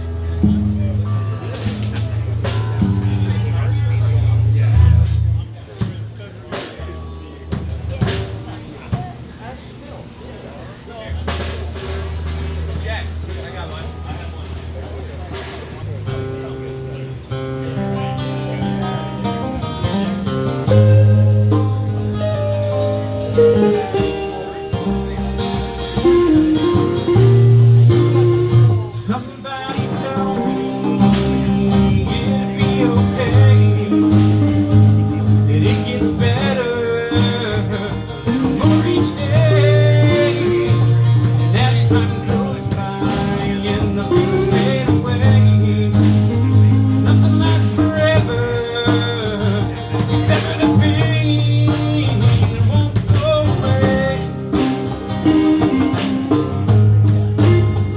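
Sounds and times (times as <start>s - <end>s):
live blues band playing: 0.0s - 57.9s.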